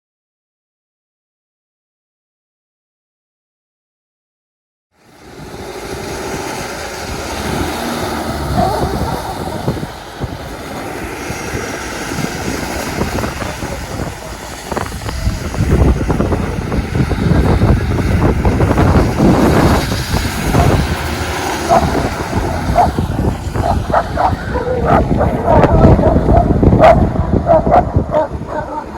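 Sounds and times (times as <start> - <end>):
car engine and road rumble: 5.0 - 28.9
rushing noise: 5.0 - 28.9.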